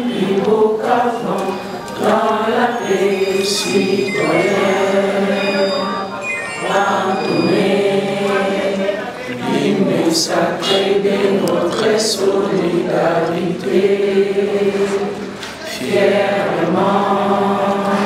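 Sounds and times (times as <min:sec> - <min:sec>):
group singing in unison: 0:00.0 - 0:18.0.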